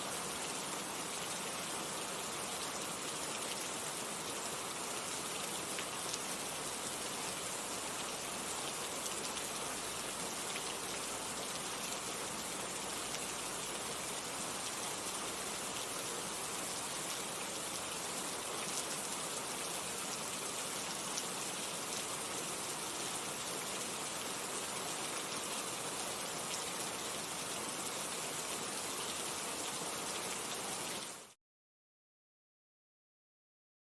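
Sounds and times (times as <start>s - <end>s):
steady rain: 0.0s - 31.4s.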